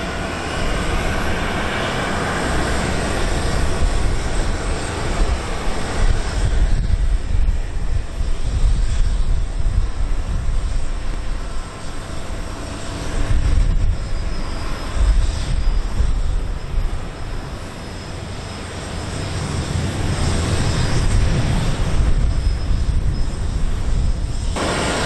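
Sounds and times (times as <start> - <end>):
jet engines taxiing: 0.0 - 25.0.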